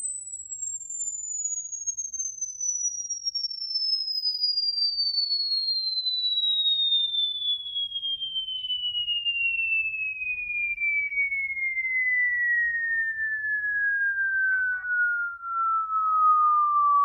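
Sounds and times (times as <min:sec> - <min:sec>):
sine tone sweeping down: 0:00.0 - 0:03.5, 0:05.3 - 0:17.0.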